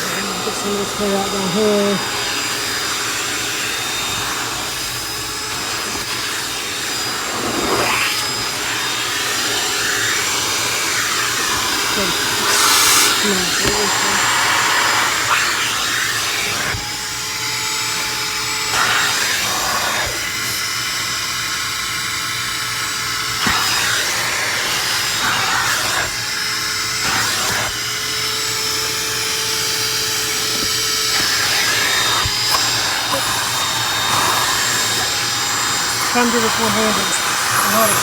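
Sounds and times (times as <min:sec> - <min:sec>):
wet dry vacuum whining: 0:00.0 - 0:38.0.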